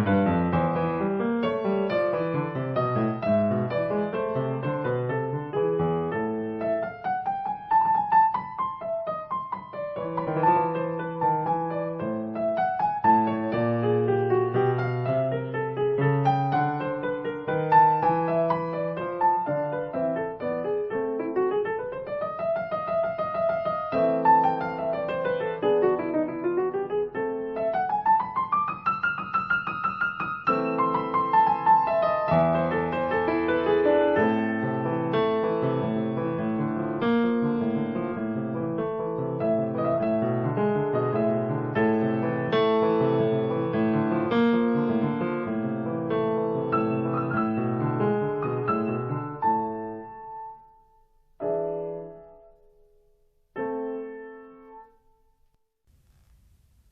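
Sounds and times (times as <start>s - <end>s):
slow piano melody: 0.0s - 55.6s.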